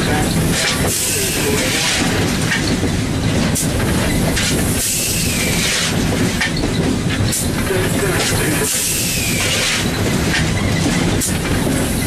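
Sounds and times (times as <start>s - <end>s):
steam locomotive rumble and clatter: 0.0s - 12.0s.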